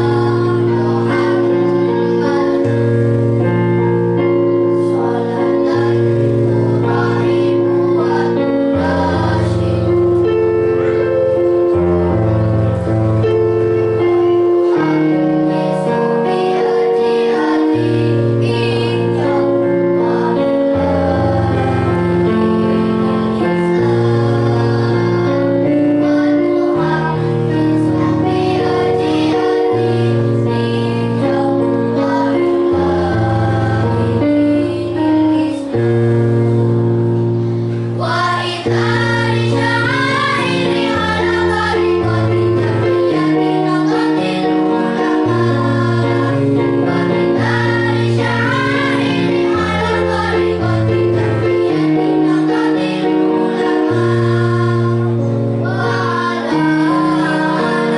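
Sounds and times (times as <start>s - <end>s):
children's choir singing: 0.0s - 36.8s, 37.8s - 57.9s
instrumental accompaniment chords: 0.0s - 57.9s.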